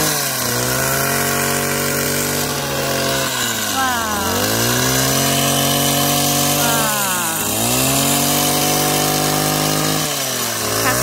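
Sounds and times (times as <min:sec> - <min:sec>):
hedge trimmer engine revving: 0:00.0 - 0:11.0.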